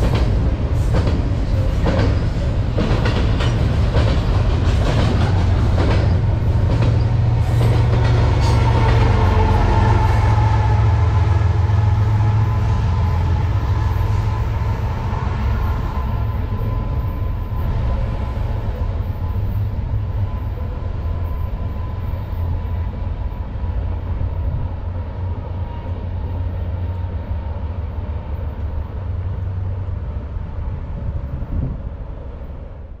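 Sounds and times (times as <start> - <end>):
freight train rumbling on rails: 0.0 - 33.0.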